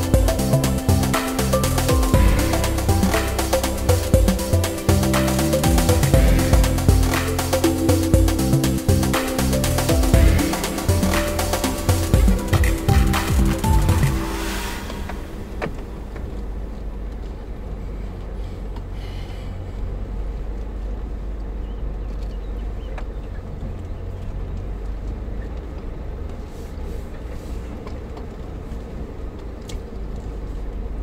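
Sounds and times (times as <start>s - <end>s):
off-road vehicle engine rumbling: 0.0s - 31.0s.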